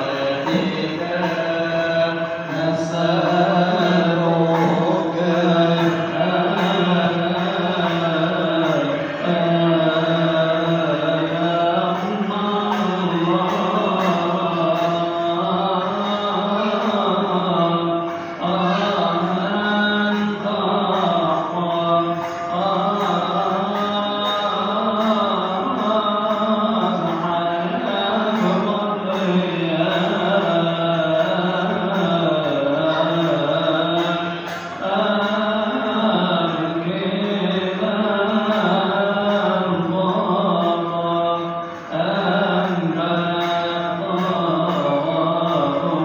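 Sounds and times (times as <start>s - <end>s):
man chanting: 0.0s - 46.0s.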